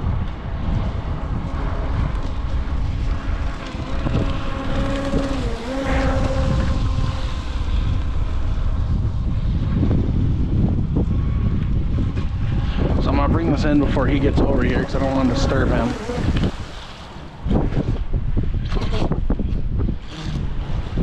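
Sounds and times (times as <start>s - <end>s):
distant electric motor whine: 0.0s - 17.8s
wind buffeting microphone: 0.0s - 21.0s.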